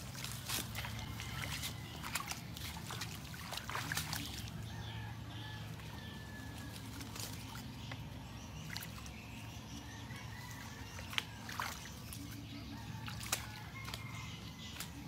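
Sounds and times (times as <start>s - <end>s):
light water splashes: 0.0s - 15.0s
low background hum: 0.0s - 15.0s
rustling in wet grass and fronds: 0.0s - 15.0s.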